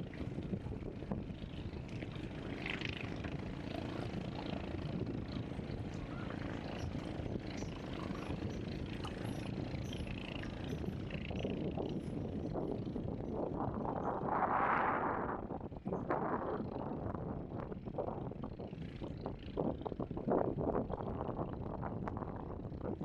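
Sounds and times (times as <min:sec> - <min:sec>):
steady low rumble: 0:03.4 - 0:23.0.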